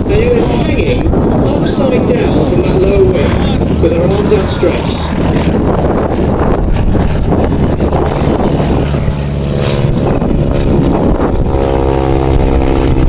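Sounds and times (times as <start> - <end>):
propeller plane engine droning: 0.0 - 13.0
rough wash of noise: 0.0 - 13.0.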